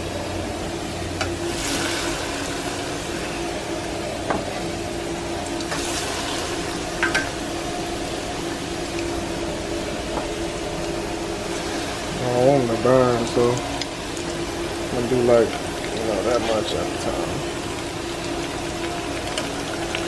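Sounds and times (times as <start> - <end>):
hot oil sizzling: 0.0 - 20.0
steady low hum: 0.0 - 20.0.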